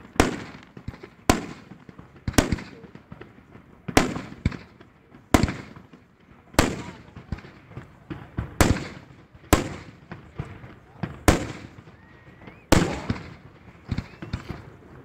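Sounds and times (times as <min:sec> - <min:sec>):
fireworks bangs with echo: 0:00.0 - 0:15.0
small firework pops: 0:00.0 - 0:15.0.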